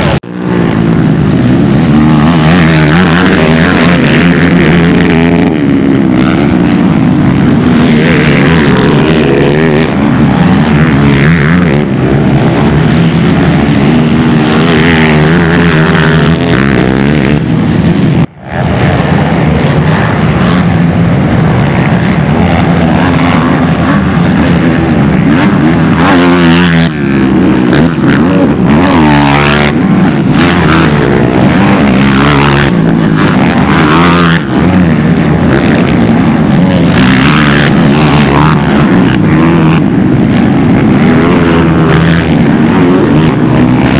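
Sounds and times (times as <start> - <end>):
quad engines revving: 0.0 - 43.9.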